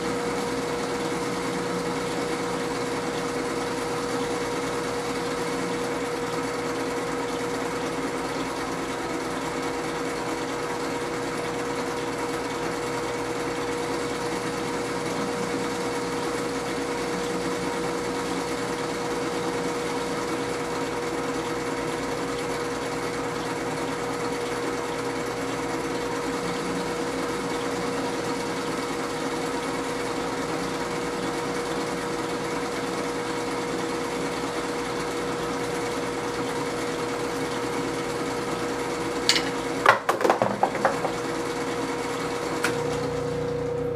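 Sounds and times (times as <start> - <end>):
metal lathe motor whine: 0.0 - 39.9, 40.6 - 43.9.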